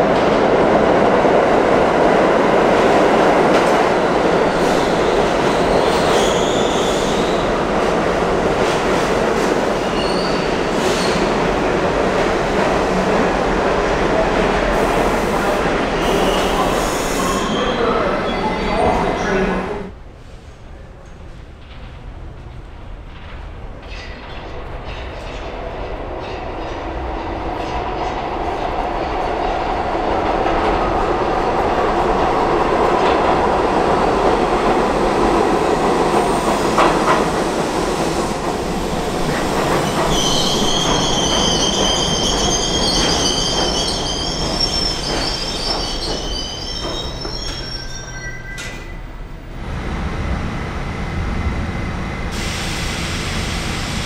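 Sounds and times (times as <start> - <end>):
subway wheels rumbling and clattering: 0.0 - 54.0.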